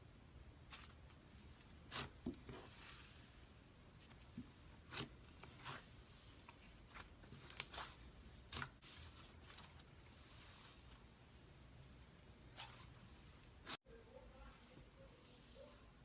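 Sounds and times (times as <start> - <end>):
slime squelching: 0.6 - 13.8.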